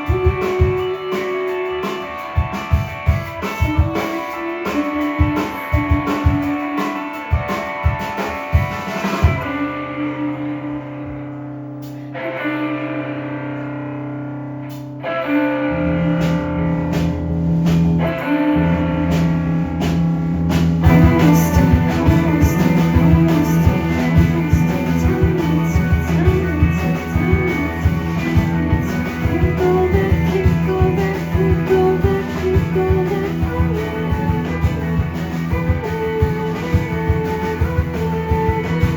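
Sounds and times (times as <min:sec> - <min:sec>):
drums: 0:00.0 - 0:38.9
electric guitar chords: 0:00.0 - 0:38.9
live rock band playing: 0:00.0 - 0:38.9.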